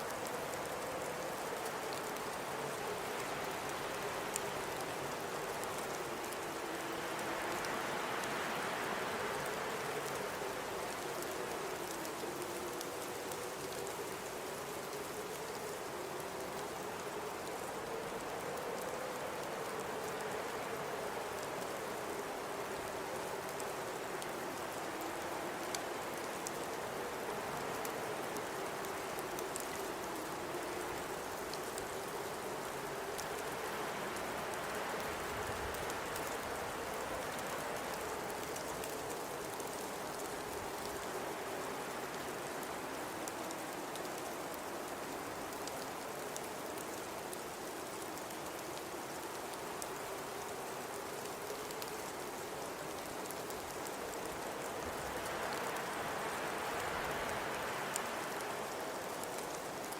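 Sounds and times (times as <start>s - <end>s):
faint ticks: 0.0s - 59.9s
howling blizzard wind: 0.0s - 59.9s.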